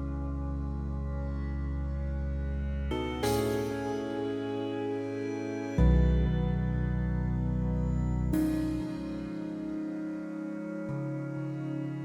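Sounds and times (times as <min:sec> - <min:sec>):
soft instrumental chords: 0:00.0 - 0:12.0.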